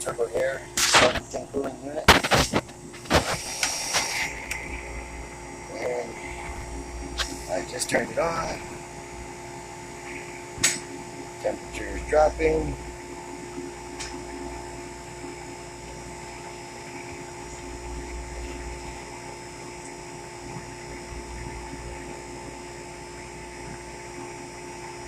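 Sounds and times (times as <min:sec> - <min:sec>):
refrigeration unit humming: 0:00.0 - 0:25.0.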